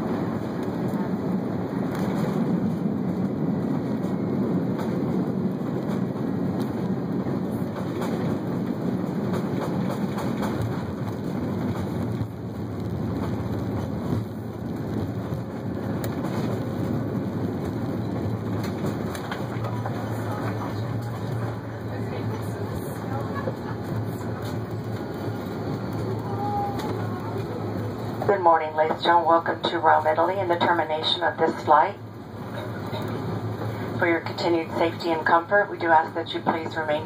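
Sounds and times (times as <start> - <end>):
jet engine cabin rumble: 0.0 - 37.0.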